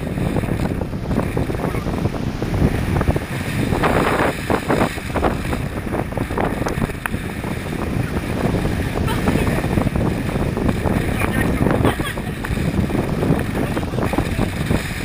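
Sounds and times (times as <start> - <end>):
rushing splashing water: 0.0 - 15.0
wind buffeting microphone: 0.0 - 15.0.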